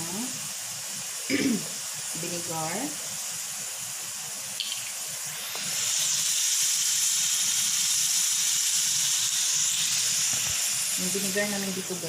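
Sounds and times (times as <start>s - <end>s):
hot pan sizzling: 0.0s - 12.0s.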